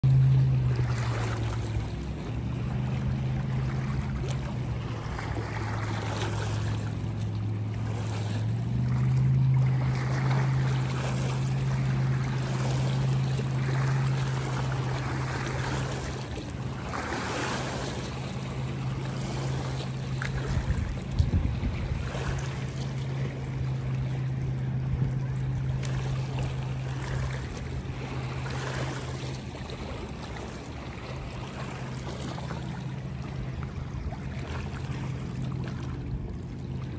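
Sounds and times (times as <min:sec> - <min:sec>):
motorboat engine drone: 0:00.0 - 0:36.9
small waves lapping on shore: 0:00.0 - 0:36.9.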